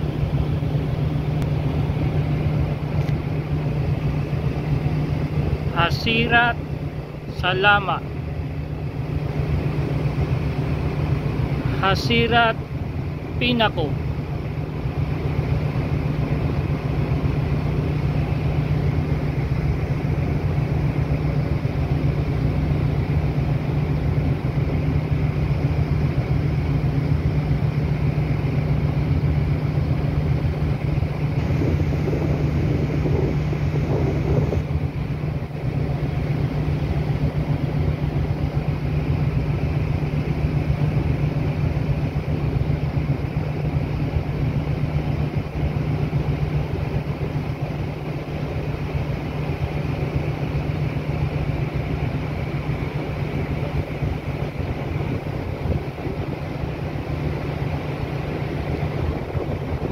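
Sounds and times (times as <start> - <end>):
rushing wind: 0.0 - 59.9
sea noise: 0.0 - 59.9
ship engines droning: 0.0 - 59.9.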